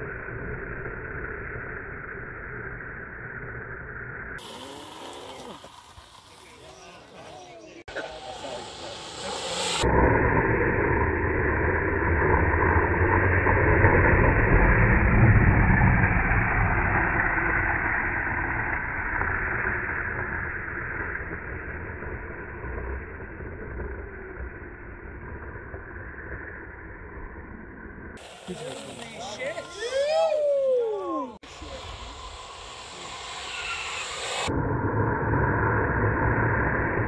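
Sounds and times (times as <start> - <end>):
longboard wheels rolling on asphalt: 0.0 - 37.0.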